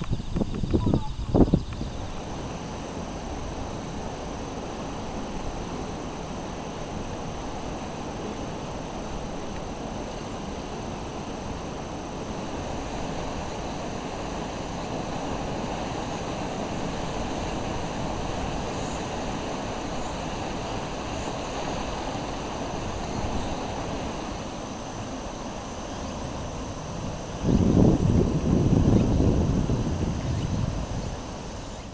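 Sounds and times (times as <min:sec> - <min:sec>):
river rushing: 0:01.9 - 0:31.9.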